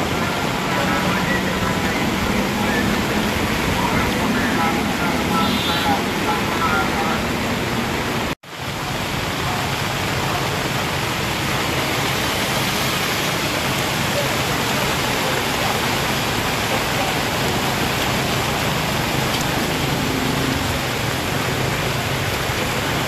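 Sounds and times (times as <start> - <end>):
floodwater rushing: 0.0 - 23.0
heavy rain: 0.0 - 23.0.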